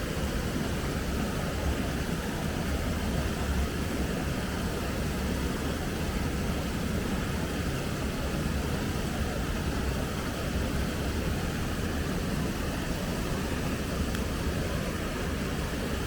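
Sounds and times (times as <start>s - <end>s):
river flowing: 0.0s - 16.0s.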